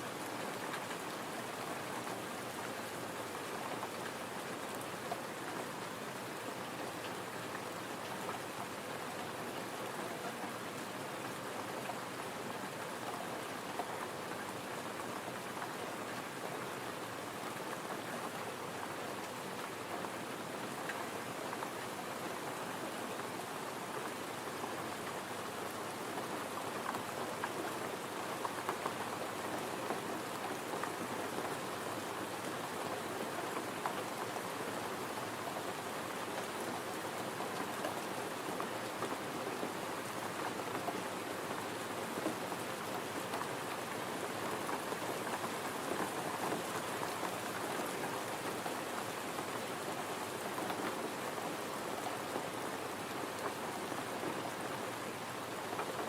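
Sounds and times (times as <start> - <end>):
gentle rain patter: 0.0 - 56.0.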